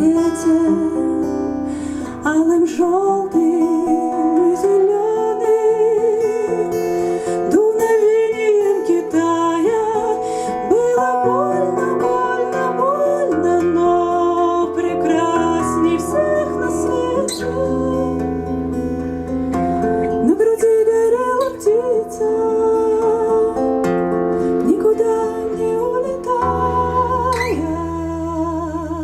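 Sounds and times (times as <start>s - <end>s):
person singing with vibrato: 0.0s - 18.8s, 20.1s - 29.0s
acoustic guitar plucked and strummed: 0.0s - 29.0s.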